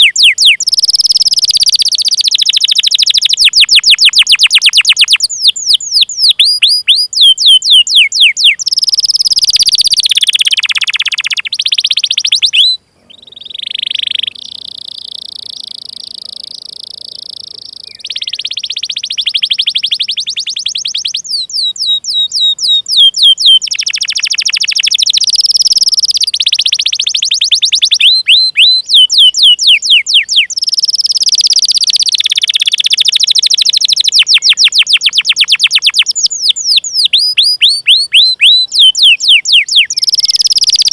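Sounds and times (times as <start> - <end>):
canary singing chirps and trills: 0.0 - 40.9.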